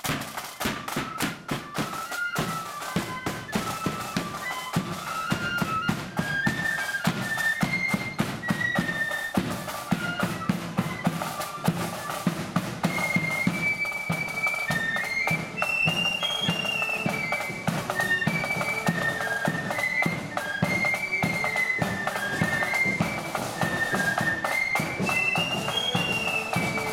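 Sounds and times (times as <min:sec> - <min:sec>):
flutes playing in unison: 0:00.0 - 0:26.9
steady drum beat: 0:00.0 - 0:26.9.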